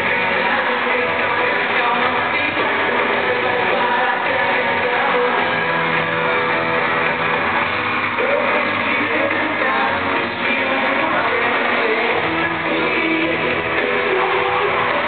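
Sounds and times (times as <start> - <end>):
electric guitars: 0.0 - 15.0
lead singer: 0.0 - 15.0
live pop-rock band: 0.0 - 15.0.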